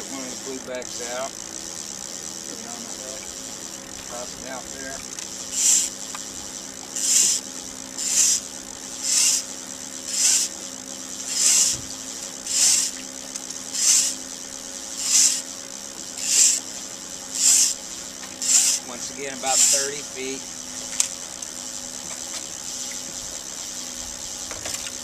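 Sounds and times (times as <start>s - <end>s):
fishing line zipping off reel: 0.1s - 14.2s, 14.9s - 15.5s, 16.1s - 16.7s, 17.3s - 25.0s.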